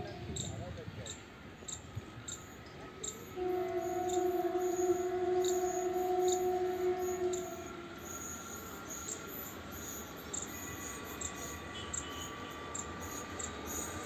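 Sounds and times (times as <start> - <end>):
train rumble and whine: 0.0 - 14.0.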